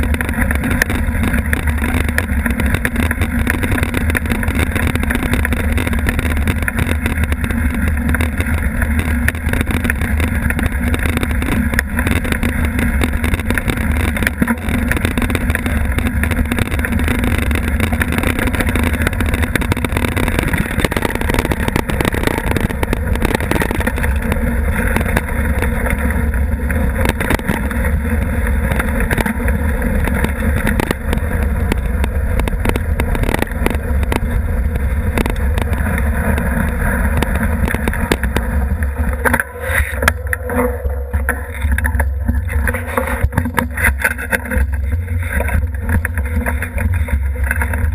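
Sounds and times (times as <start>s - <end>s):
bike knocks and rattles: 0.0s - 47.9s
wind rumble on microphone: 0.0s - 47.9s.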